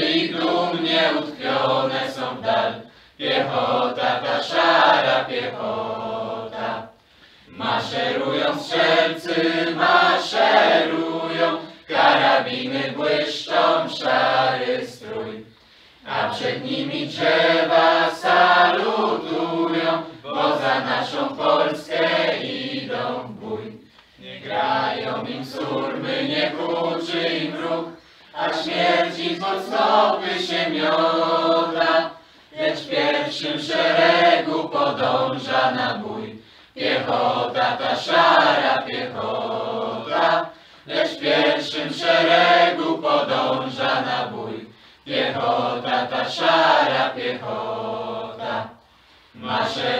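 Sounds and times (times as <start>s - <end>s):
choir singing: 0.0s - 48.8s, 49.4s - 49.9s.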